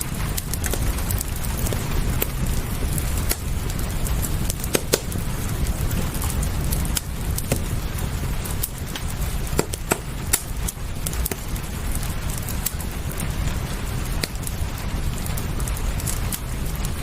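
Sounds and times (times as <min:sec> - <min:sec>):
low rumble: 0:00.0 - 0:17.0
rain hissing: 0:00.0 - 0:17.0
wood fire crackling: 0:00.0 - 0:17.0.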